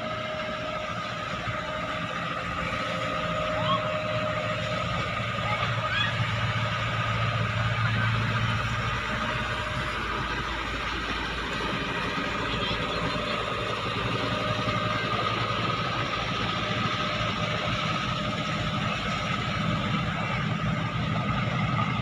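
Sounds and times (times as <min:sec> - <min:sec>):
boat engine humming: 0:00.0 - 0:22.0
engine whine: 0:00.0 - 0:22.0.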